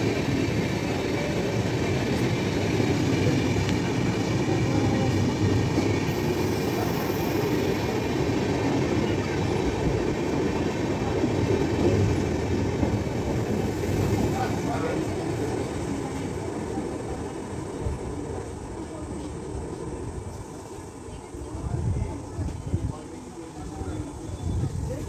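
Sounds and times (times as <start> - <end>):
train wheels rumbling and clattering: 0.0 - 20.8.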